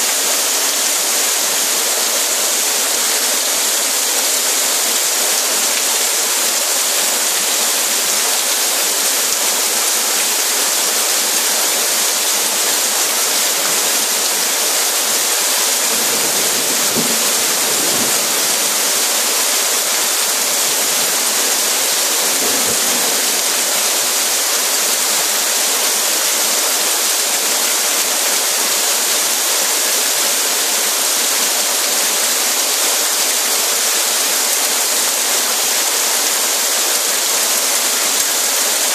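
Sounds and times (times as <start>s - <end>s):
drainpipe gushing water: 0.0s - 38.9s
heavy rain on paving: 0.0s - 38.9s.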